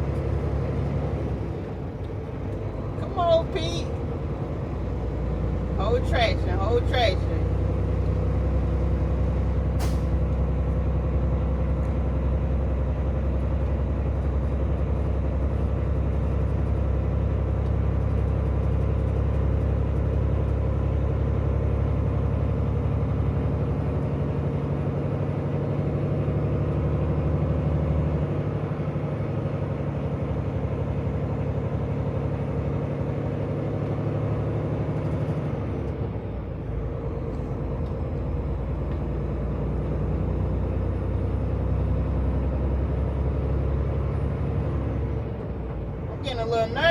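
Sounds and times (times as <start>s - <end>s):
diesel truck engine pulling: 0.0s - 46.9s.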